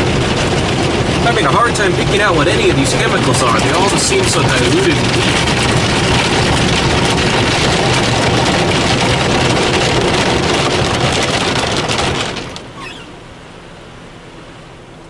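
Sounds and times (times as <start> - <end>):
water spray hissing on car: 0.0 - 13.0
low machine hum: 0.0 - 15.0.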